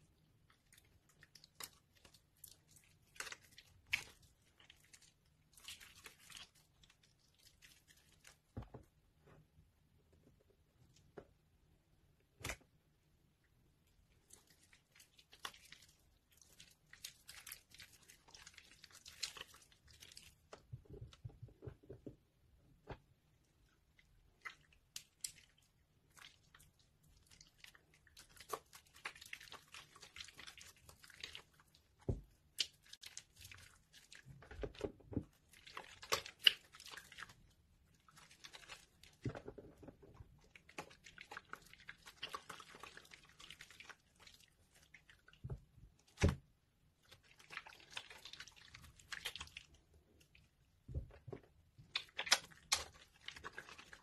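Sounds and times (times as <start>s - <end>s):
wet soap squelching: 0.0s - 54.0s.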